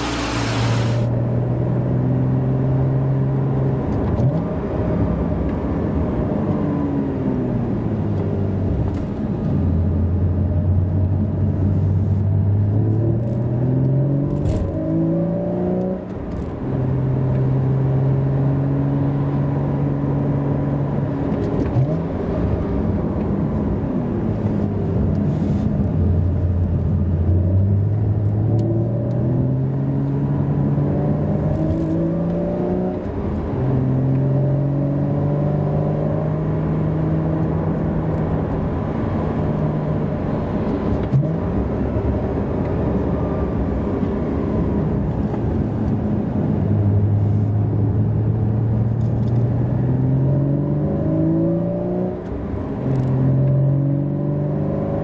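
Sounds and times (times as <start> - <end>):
tyre and road noise: 0.0 - 1.4, 7.5 - 17.7, 20.9 - 55.0.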